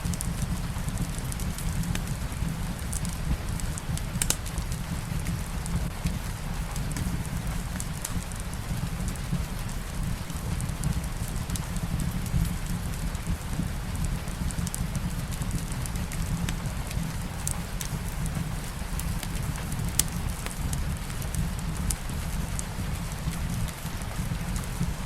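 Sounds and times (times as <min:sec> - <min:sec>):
steady low rumble: 0:00.0 - 0:25.0
steady soft rain: 0:00.0 - 0:25.0
wood fire crackling: 0:00.0 - 0:25.0.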